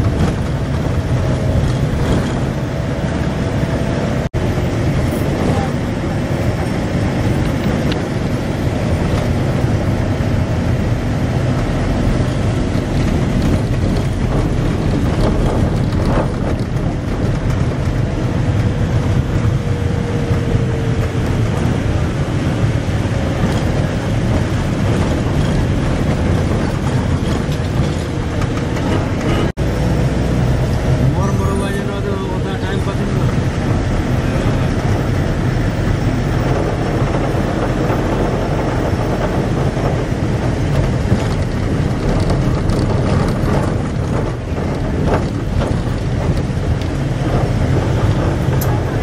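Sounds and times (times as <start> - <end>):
vehicle engine and road noise: 0.0 - 49.0.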